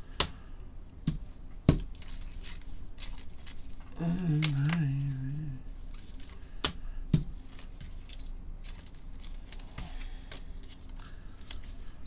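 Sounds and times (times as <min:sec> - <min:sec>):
trading cards clicking and rustling: 0:01.1 - 0:12.0.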